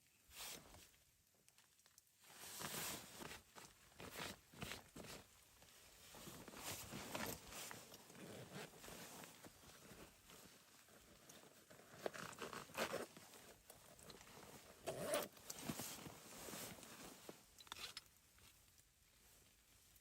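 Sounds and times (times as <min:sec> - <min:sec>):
rustling and scraping: 0:02.2 - 0:19.9.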